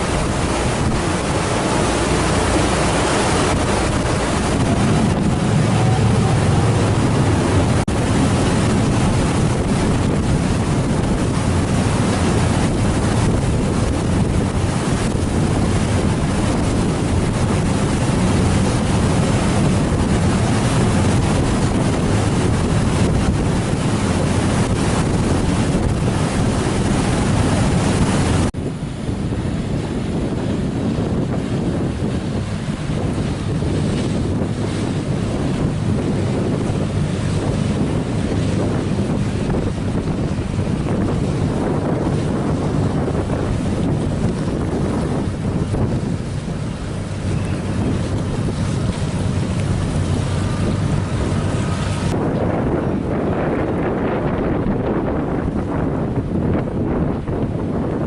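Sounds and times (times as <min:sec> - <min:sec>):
rushing harbour water: 0:00.0 - 0:58.0
wind buffeting microphone: 0:00.0 - 0:58.0.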